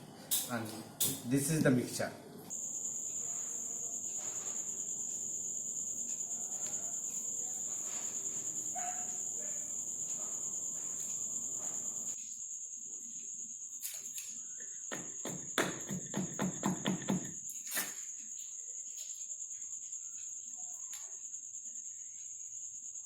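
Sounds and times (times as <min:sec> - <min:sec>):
cricket chirping: 0:02.3 - 0:23.0.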